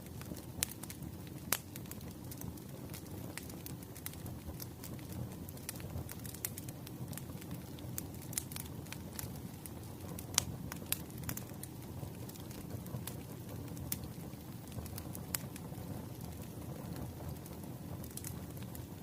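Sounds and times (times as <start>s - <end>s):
firewood crackling and popping: 0.0s - 19.0s
low rumble of flames: 0.0s - 19.0s.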